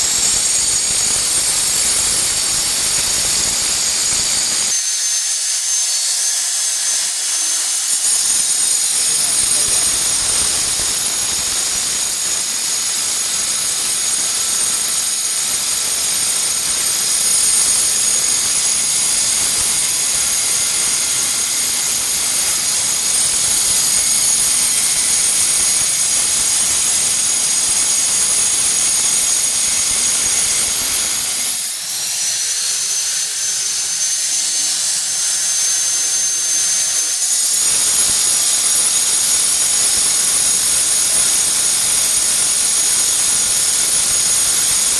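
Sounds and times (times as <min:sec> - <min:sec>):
angle grinder cutting glass: 0:00.0 - 0:44.9.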